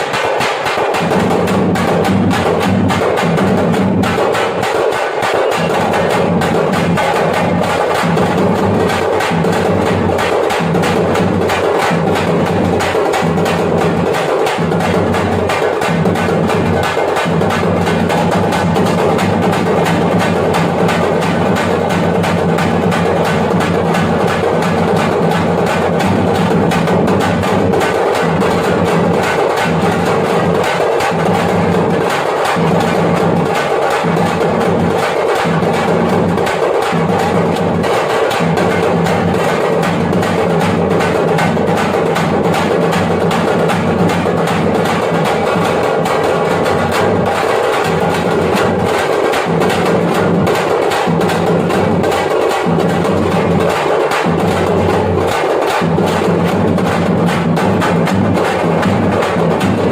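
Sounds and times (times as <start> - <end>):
frame drums beaten with sticks: 0.0 - 59.9.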